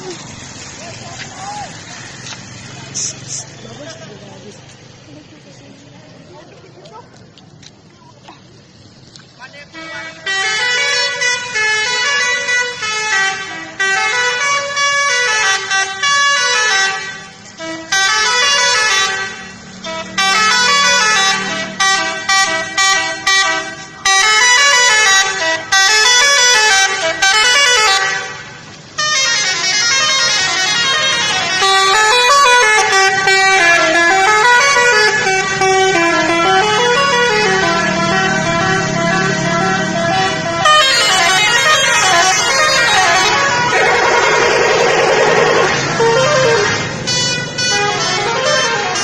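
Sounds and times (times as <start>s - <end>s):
musical bus air horn: 9.7s - 49.0s.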